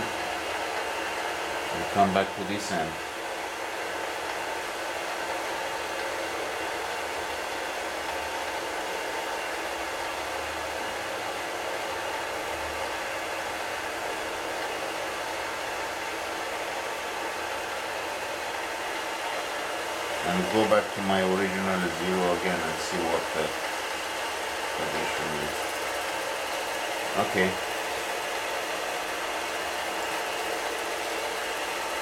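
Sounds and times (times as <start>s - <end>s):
lathe motor humming: 0.0s - 32.0s.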